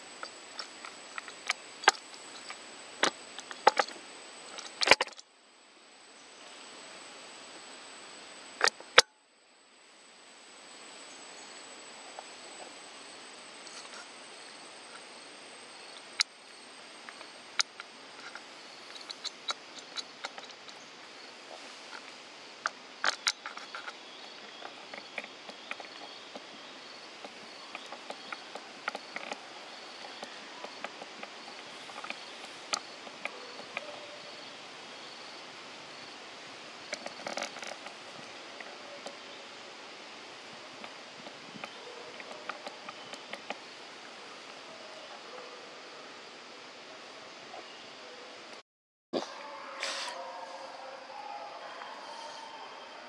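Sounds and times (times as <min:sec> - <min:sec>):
insects buzzing and chirping: 0:00.0 - 0:48.5
steady hiss: 0:00.0 - 0:48.6.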